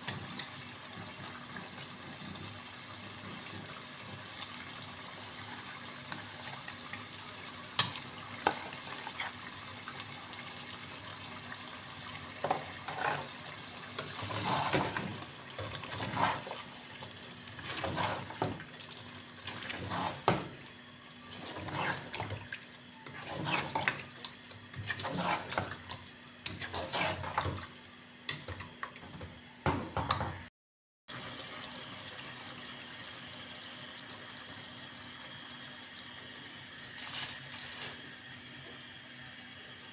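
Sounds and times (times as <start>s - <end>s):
water running from a tap: 0.0s - 29.2s, 31.1s - 39.9s.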